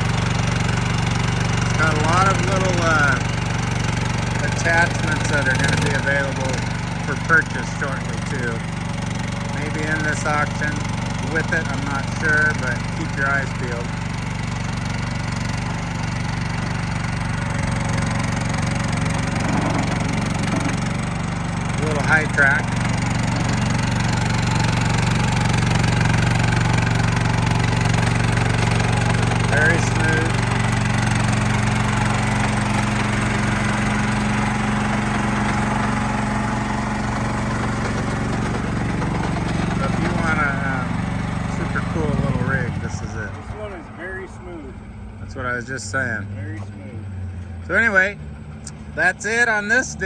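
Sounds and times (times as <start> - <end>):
gasoline engine running: 0.0 - 50.0.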